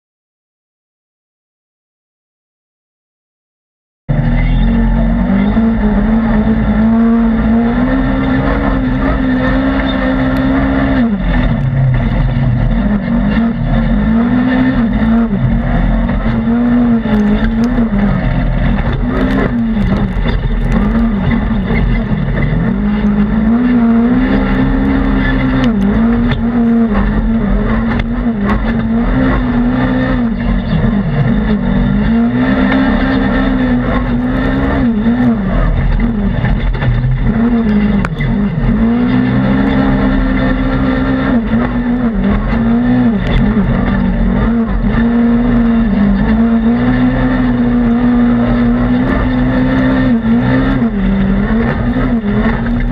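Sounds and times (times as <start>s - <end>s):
engine revving at racing throttle: 4.1s - 52.9s.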